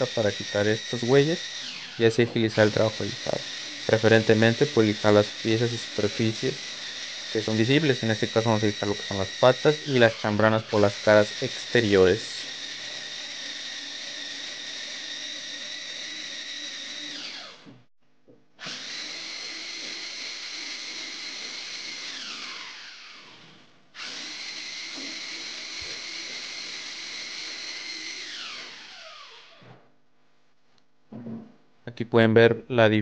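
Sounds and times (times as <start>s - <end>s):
belt sander whining: 0.0s - 17.9s, 18.6s - 29.8s.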